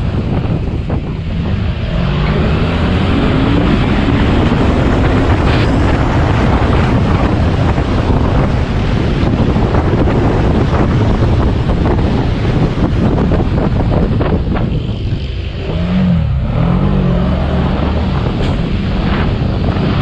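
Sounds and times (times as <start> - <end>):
motorcycle engine accelerating: 0.0 - 20.0
wind noise on microphone: 0.0 - 20.0.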